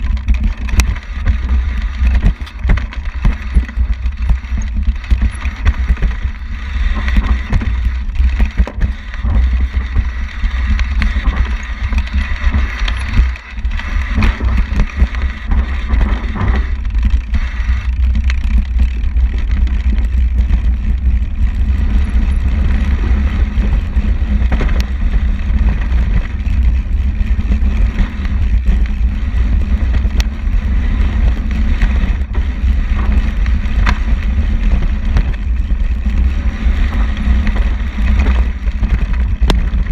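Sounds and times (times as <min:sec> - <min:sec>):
bicycle tyre noise: 0:00.0 - 0:39.9
wind rumble on microphone: 0:00.0 - 0:39.9.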